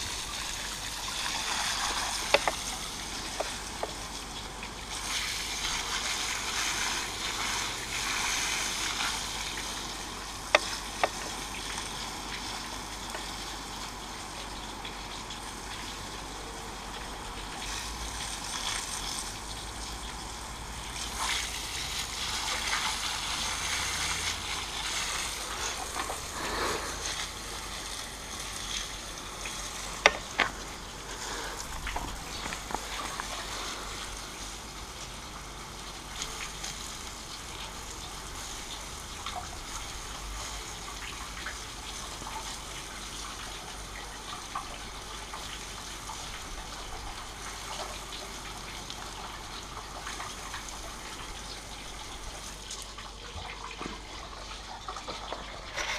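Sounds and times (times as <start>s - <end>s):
water spattering on wood and concrete: 0.0s - 55.7s
garden hose spraying water: 0.0s - 55.9s.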